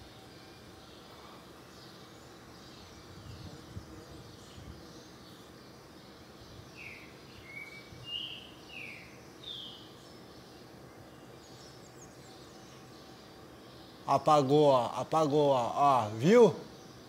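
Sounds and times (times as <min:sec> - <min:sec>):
bird chirping calls: 0:00.0 - 0:17.0
faint outdoor hiss: 0:00.0 - 0:17.0.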